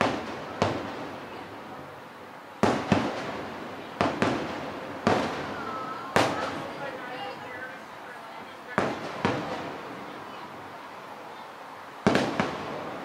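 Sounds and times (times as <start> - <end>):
fireworks booming with echo: 0.0 - 2.0, 2.6 - 7.9, 8.6 - 10.7, 12.0 - 13.0.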